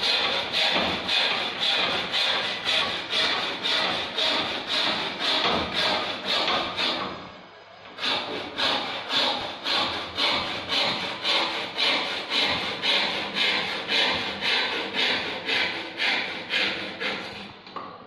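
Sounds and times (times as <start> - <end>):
hand saw cutting wood: 0.0 - 7.2, 8.0 - 17.6.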